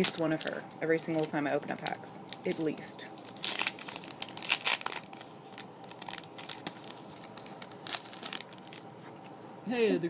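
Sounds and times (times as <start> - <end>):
wrapper tearing: 0.0 - 0.5, 1.2 - 8.9
wrapper crinkling: 0.0 - 9.3
cards rustling: 0.0 - 9.4.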